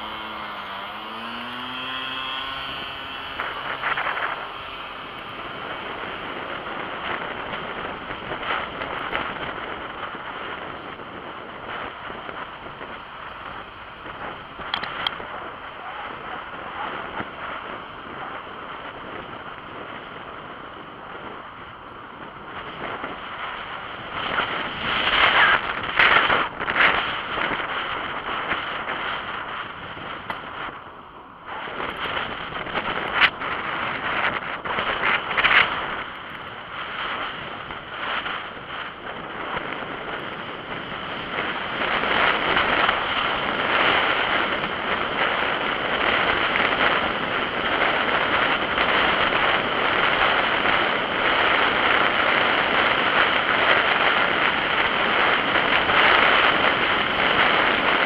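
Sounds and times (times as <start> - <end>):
bicycle tyre road noise: 0.0 - 58.0
wind rushing over microphone: 0.0 - 58.0.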